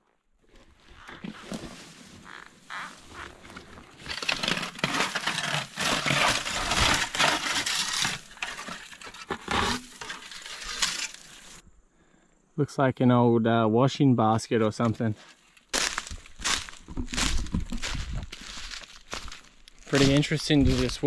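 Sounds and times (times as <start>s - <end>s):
dry ferns crackling and rustling: 0.5s - 11.6s, 15.3s - 21.0s.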